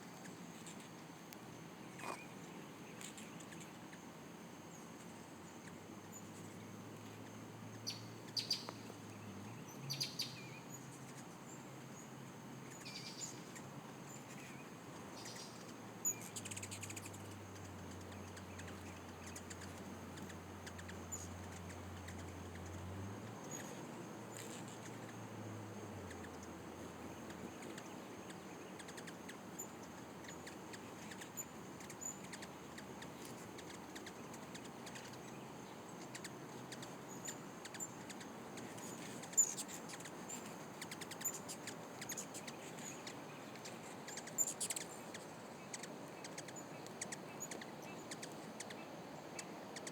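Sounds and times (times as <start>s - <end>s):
low hum of hummingbird wings: 0.0s - 49.9s
hummingbirds chirping: 0.2s - 0.9s, 4.6s - 49.9s.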